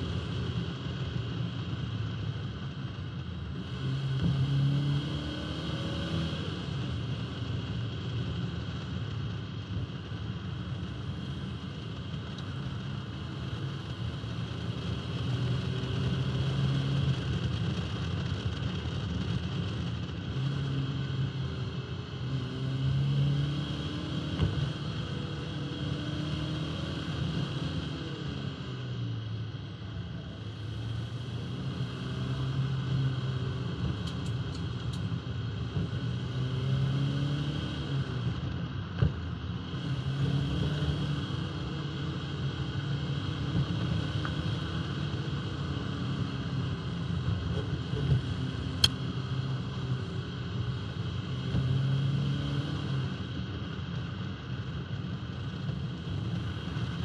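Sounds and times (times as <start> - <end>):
road noise: 0.0 - 57.0
car engine accelerating: 3.5 - 7.7, 12.4 - 54.8.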